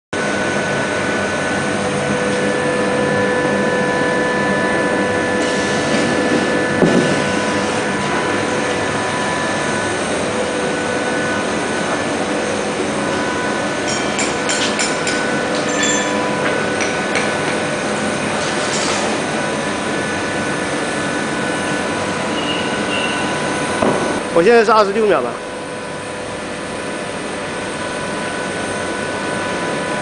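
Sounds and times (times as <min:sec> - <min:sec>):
high steady whining tones: 0:00.2 - 0:30.0
steady machine hum: 0:00.2 - 0:30.0.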